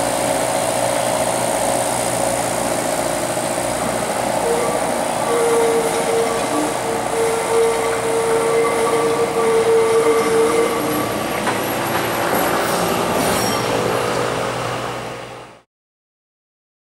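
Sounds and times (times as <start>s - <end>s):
tram wheels squealing: 0.0s - 15.4s
rolling rail noise: 0.0s - 15.7s.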